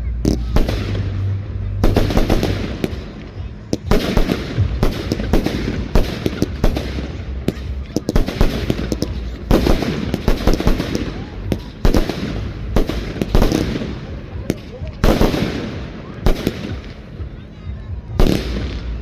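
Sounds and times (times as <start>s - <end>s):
fireworks bangs and crackling: 0.0s - 19.0s
low rumble: 0.0s - 19.0s.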